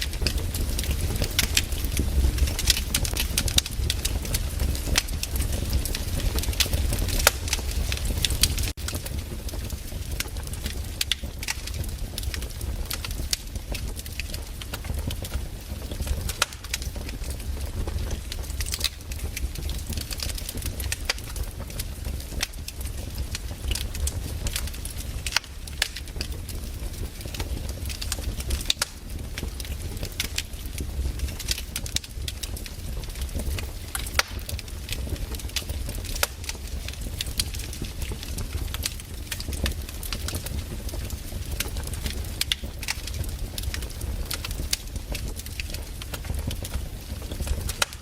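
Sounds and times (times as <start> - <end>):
fire low rumble: 0.0 - 48.0
wood fire crackling: 0.0 - 48.0.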